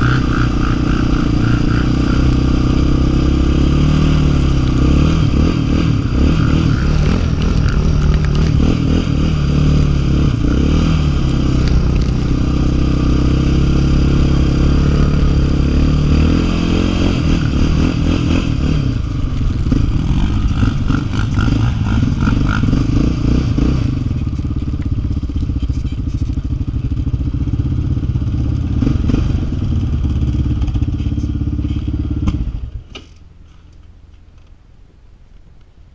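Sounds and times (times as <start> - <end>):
quad engine running: 0.0 - 33.2.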